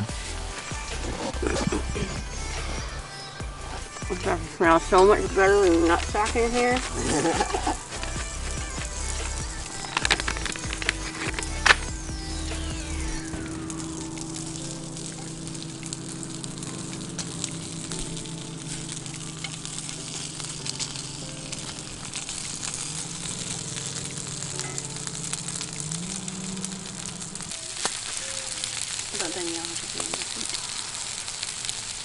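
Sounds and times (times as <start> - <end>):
bacon sizzling in a pan: 0.0 - 32.0.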